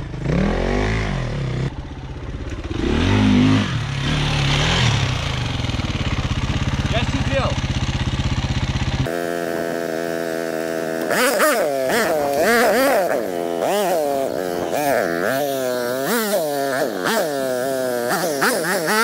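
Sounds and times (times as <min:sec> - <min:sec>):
distant dirt bike engine revving: 0:00.0 - 0:19.0.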